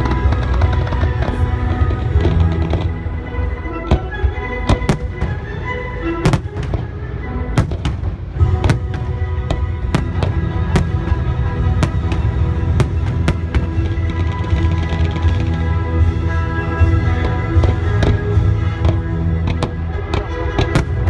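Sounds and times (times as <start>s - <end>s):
music playing: 0.0s - 21.0s.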